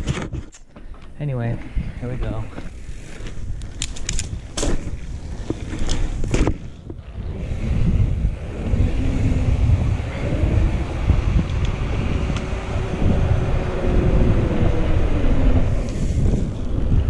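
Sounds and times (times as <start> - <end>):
bike clicks and rattles: 0.0 - 17.0
bike tyres humming on asphalt: 0.8 - 17.0
wind buffeting microphone: 1.4 - 17.0.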